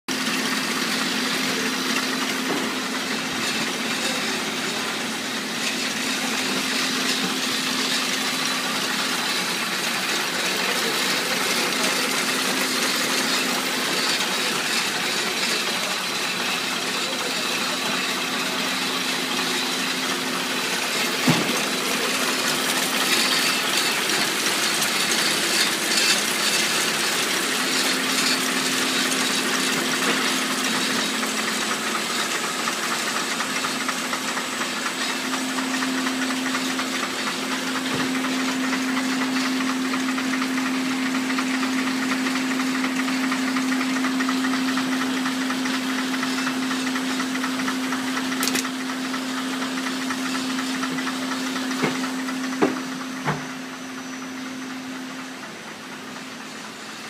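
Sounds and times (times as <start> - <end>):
gluing machine clatter and hum: 0.1 - 57.0.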